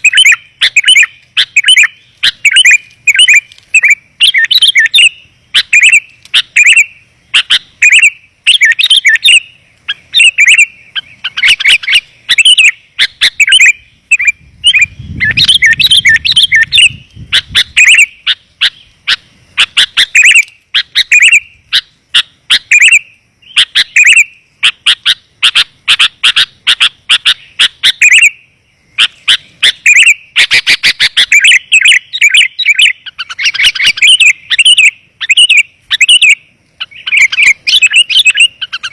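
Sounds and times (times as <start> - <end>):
bird chirping in rapid bursts: 0.0 - 38.9.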